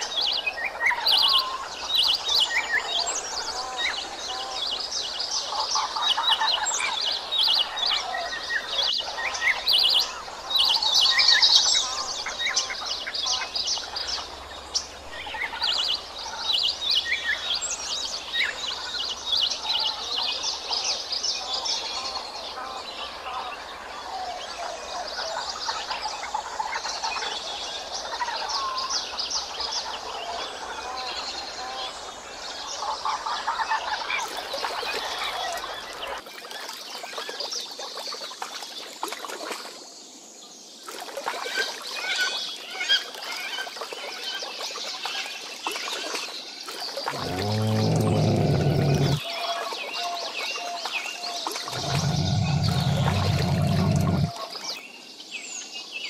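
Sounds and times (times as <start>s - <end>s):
many birds chirping and singing: 0.0s - 40.8s, 41.4s - 56.0s.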